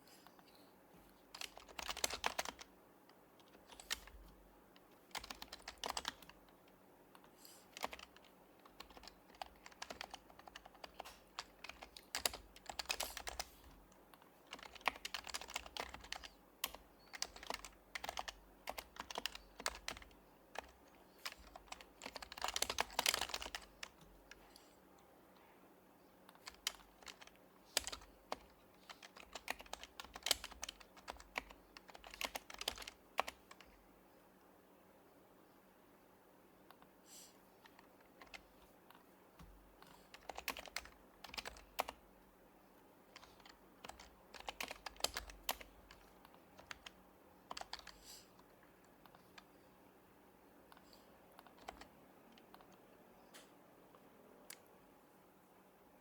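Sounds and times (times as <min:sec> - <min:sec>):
soft keyboard typing clicks: 0:01.3 - 0:24.4, 0:26.2 - 0:33.8, 0:37.6 - 0:42.0, 0:43.1 - 0:49.5, 0:50.7 - 0:54.7.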